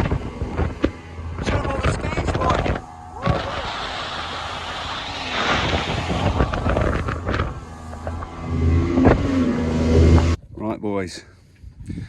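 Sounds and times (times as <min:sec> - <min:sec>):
motorboat engine hum: 0:00.0 - 0:10.4
wind rush: 0:00.0 - 0:10.4.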